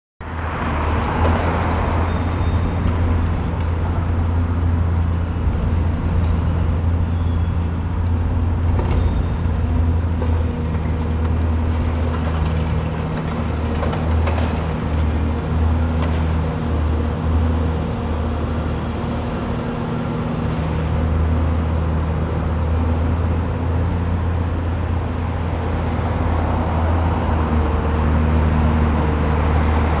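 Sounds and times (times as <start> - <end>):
excavator diesel engine drone: 0.2 - 30.0.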